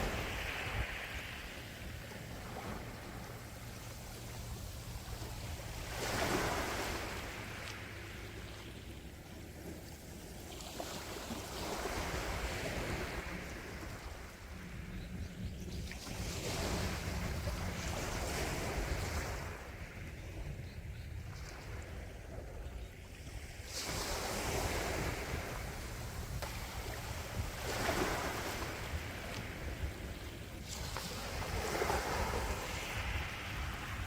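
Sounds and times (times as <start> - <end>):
waves breaking on shore: 0.0 - 14.9, 15.8 - 20.6, 21.2 - 34.0.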